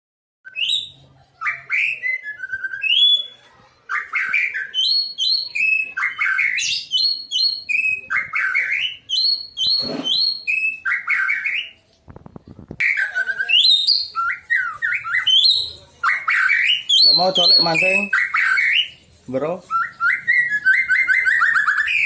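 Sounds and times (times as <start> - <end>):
bird singing whistled song: 0.5 - 11.8, 12.8 - 19.0, 19.6 - 22.0.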